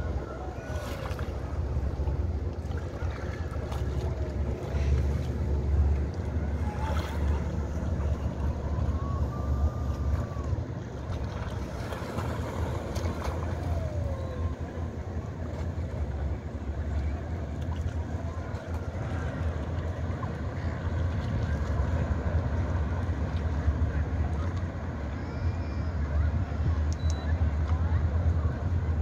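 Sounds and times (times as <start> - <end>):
water lapping around canoe: 0.0 - 26.7.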